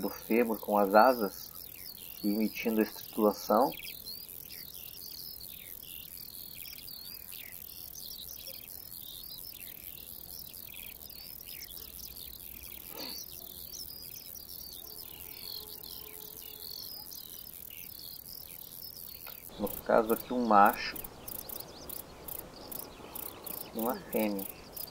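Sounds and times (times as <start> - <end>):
grasshopper chirping: 0.0 - 24.9.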